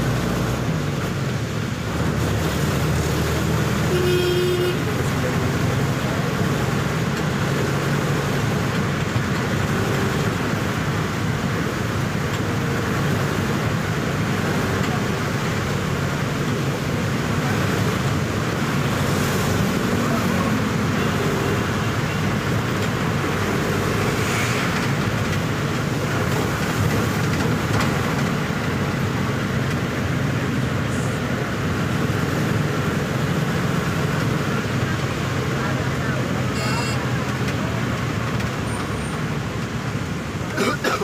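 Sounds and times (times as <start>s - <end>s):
car road noise on wet road: 0.0s - 41.0s.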